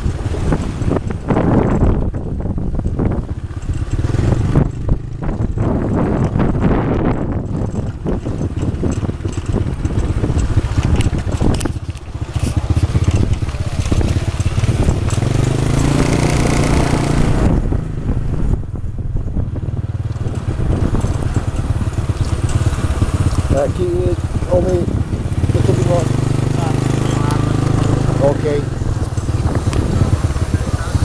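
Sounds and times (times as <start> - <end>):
motorbike engine running: 0.0 - 31.0
road and wind noise: 0.0 - 31.0.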